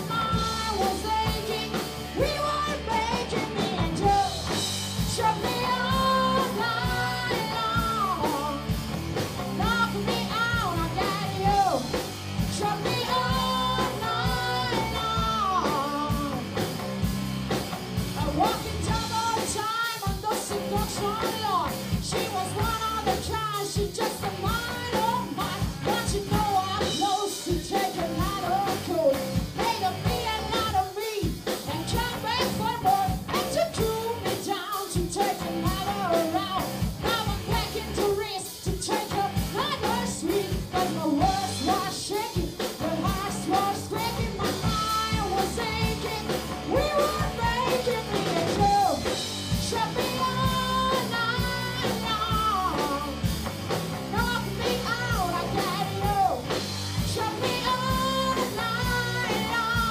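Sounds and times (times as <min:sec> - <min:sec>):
lead vocal singing: 0:00.0 - 0:16.8, 0:18.1 - 0:53.3, 0:53.9 - 0:59.9
bass guitar: 0:00.0 - 0:59.9
drum kit beat: 0:00.0 - 0:59.9
electric guitars: 0:00.0 - 0:59.9.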